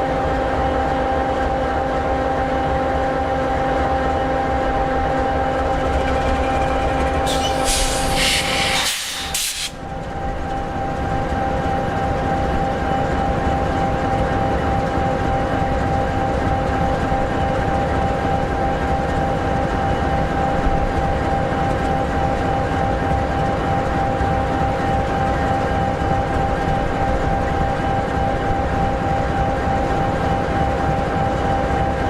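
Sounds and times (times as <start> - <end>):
diesel locomotive idling: 4.2 - 32.0.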